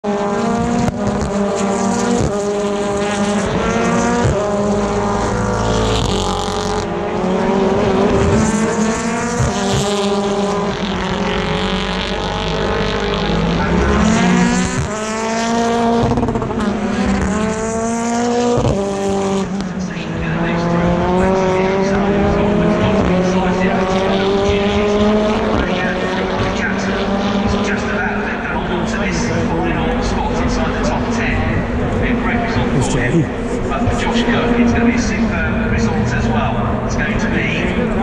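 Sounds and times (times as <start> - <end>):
race cars accelerating: 0.0 - 38.0.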